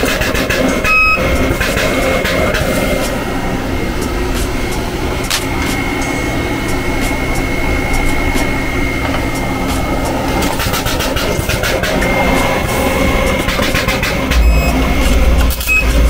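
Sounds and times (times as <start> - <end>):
spot welder humming and whining: 0.0 - 16.0.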